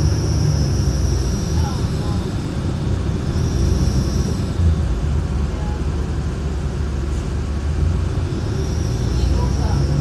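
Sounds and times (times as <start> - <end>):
bus engine rumble: 0.0 - 10.0.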